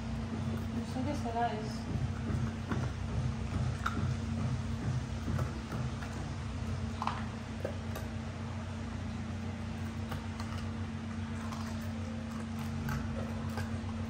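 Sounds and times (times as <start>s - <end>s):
steady low hum: 0.0s - 14.0s
dog crunching ice: 2.0s - 8.6s, 9.2s - 14.0s.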